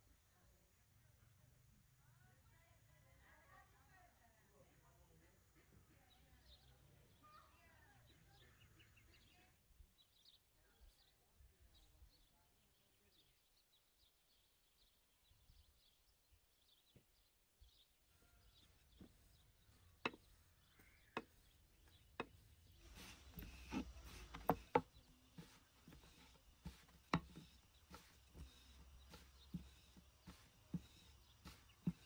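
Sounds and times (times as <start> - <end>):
birds chirping: 6.1 - 32.0.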